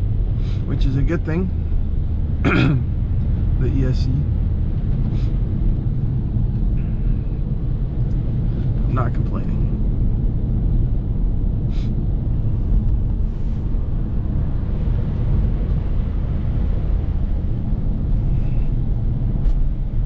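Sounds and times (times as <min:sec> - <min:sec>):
car engine running: 0:00.0 - 0:20.0
tyre and road noise: 0:00.0 - 0:20.0.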